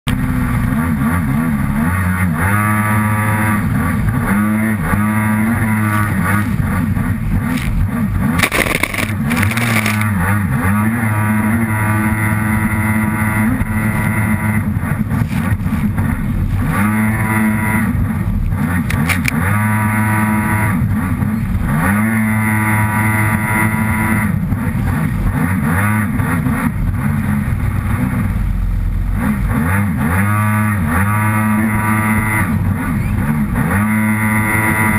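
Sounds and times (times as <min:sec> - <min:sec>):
jet ski engine revving: 0:00.1 - 0:34.9.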